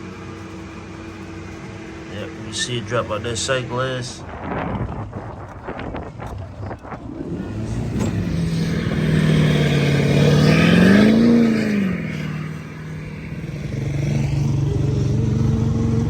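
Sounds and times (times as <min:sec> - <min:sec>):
engine revving and idling: 0:00.0 - 0:16.0.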